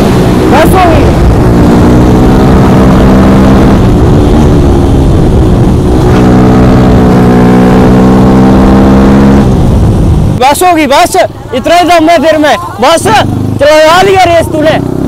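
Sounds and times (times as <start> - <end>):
motorcycle engine at high revs: 0.0 - 10.4, 12.1 - 15.0
wind rushing over microphone: 0.0 - 12.3.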